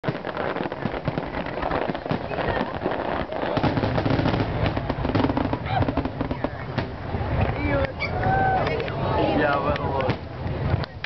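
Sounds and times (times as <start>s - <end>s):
deep fireworks rumble: 0.0s - 11.0s
fireworks bangs and crackles: 0.0s - 11.0s.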